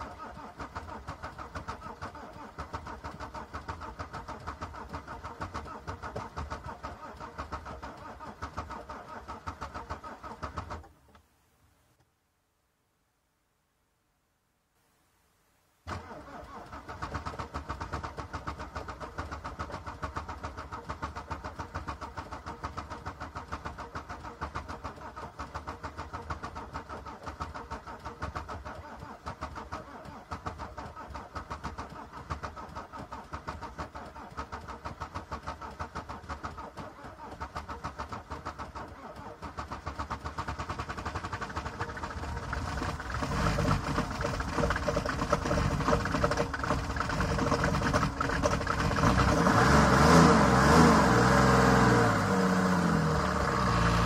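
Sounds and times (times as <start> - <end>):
diesel engine starting: 0.0 - 11.0, 15.9 - 54.0.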